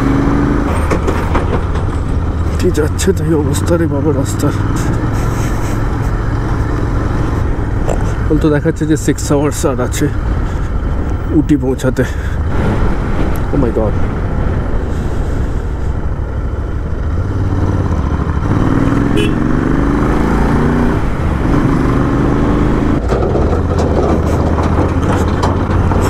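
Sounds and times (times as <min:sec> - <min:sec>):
passing bus engine: 0:00.0 - 0:26.0
motorcycle engine running: 0:01.6 - 0:11.4, 0:12.2 - 0:26.0.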